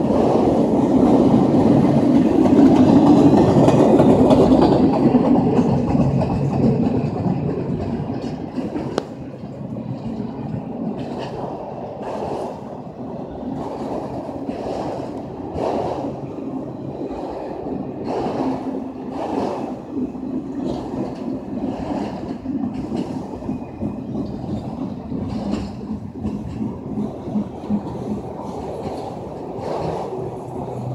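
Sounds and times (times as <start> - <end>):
train wheels knocking and clattering: 0.0 - 12.8, 13.4 - 30.9
train rumbling by: 0.0 - 30.9.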